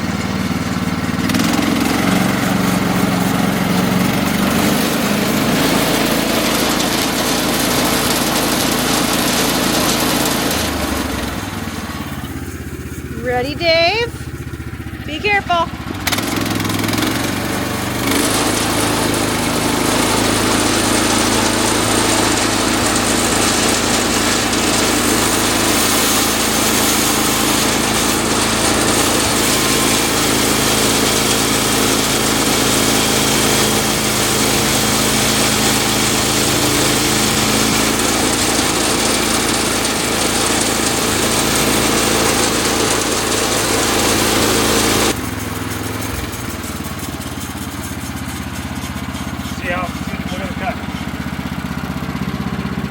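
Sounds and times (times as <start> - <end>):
sawmill engine drone: 0.0 - 52.9.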